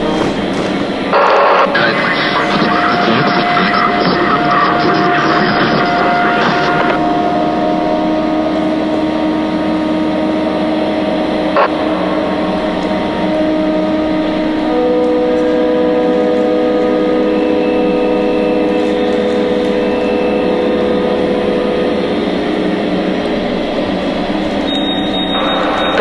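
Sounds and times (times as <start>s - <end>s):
dense droning hum of held tones: 0.0s - 26.0s.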